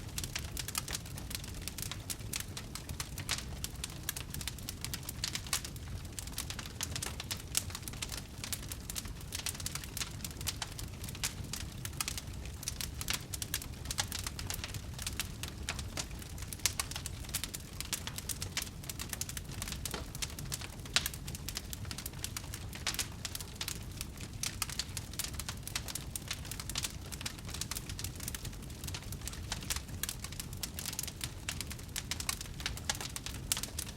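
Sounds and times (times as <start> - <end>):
campfire crackling and popping: 0.0 - 33.9
low rumble of burning: 0.0 - 33.9.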